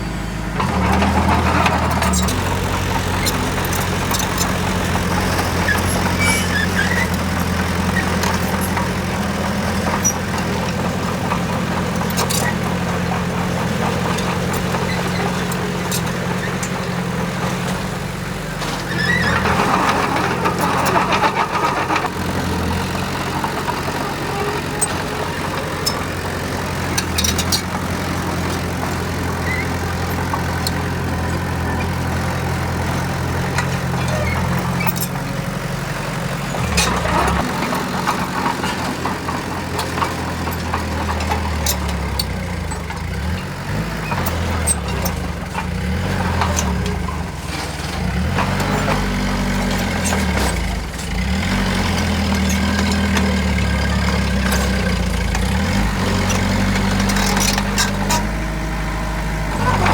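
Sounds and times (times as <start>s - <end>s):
diesel machine engine running: 0.0s - 59.9s.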